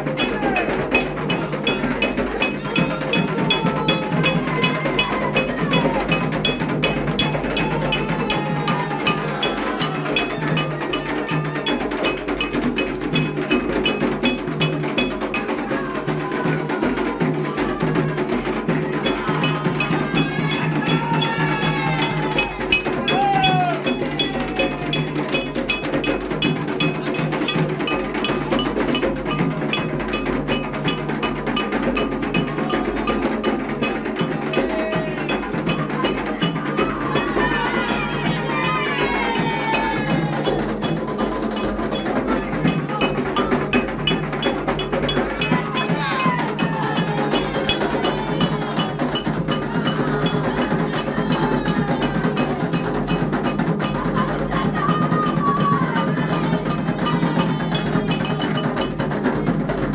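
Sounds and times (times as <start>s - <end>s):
hand drums: 0.0s - 59.9s
voices singing: 0.0s - 59.9s.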